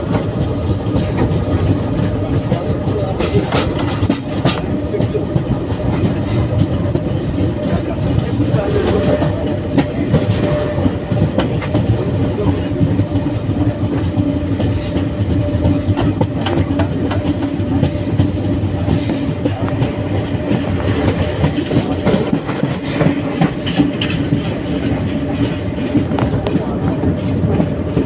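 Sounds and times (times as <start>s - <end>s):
irregular track clicks: 0.0s - 28.0s
train wheels rumbling on rails: 0.0s - 28.0s.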